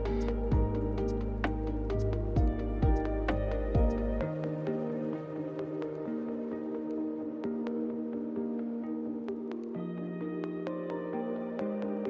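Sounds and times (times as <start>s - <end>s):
ambient electronic music: 0.0s - 12.0s.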